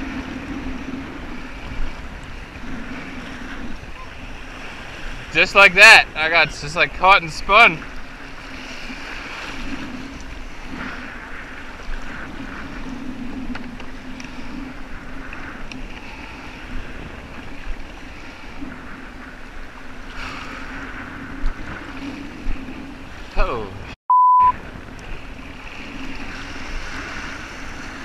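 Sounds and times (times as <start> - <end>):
waves slapping against kayak hull: 0.0 - 23.4, 24.6 - 28.0
wind buffeting microphone: 0.0 - 28.0.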